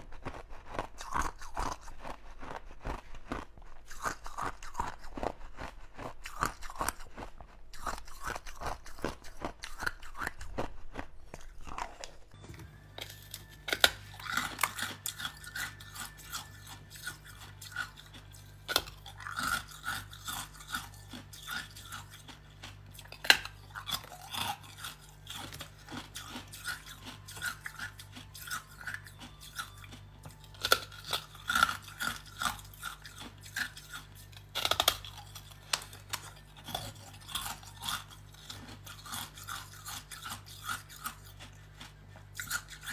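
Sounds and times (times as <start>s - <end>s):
ice being chewed: 0.0s - 42.9s.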